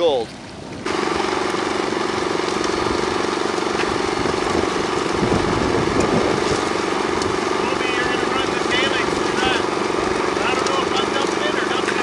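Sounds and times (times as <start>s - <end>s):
construction machine engine drone: 0.7s - 12.0s.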